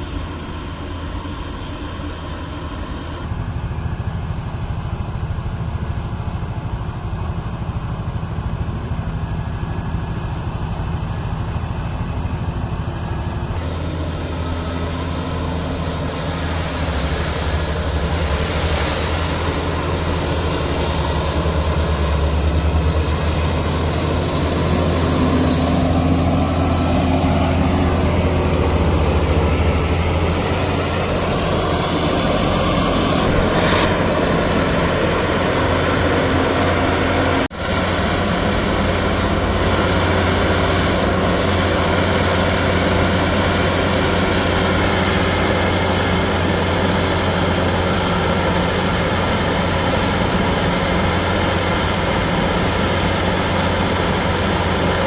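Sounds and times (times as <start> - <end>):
combine harvester engine running: 0.0 - 55.0.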